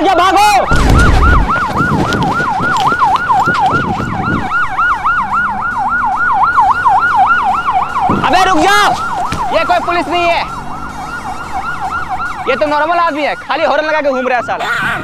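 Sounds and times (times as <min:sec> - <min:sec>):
police siren yelping: 0:00.0 - 0:15.0.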